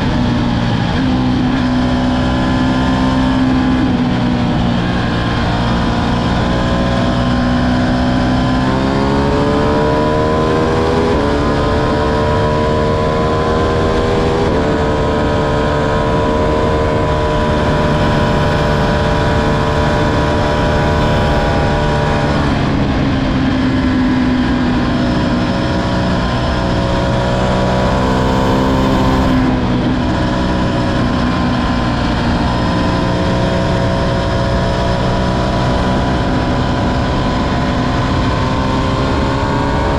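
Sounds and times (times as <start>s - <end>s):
motorcycle engine shifting gears: 0.0s - 39.9s
wind rush: 3.6s - 39.9s.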